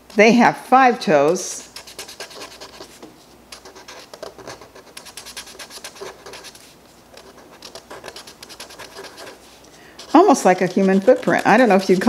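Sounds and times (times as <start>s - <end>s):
marker scratching on paper: 1.3s - 12.0s.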